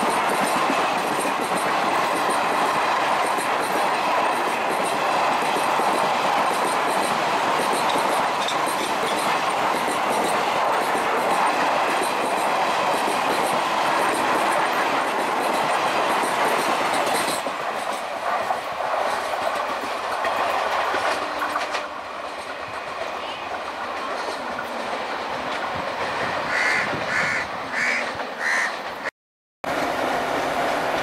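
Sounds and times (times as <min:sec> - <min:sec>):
wheels clacking over rail joints: 0:00.0 - 0:29.1
train wheels rumbling on rail: 0:00.0 - 0:31.0.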